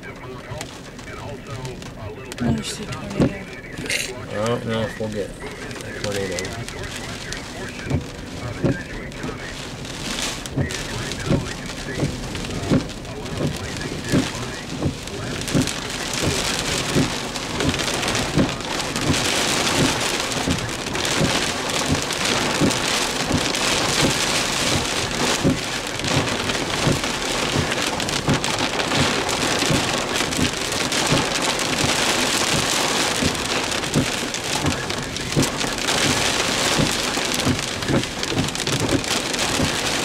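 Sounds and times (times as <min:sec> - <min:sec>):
heavy rain pelting a vehicle: 0:00.0 - 0:40.0
raindrops knocking on roof: 0:00.0 - 0:40.0.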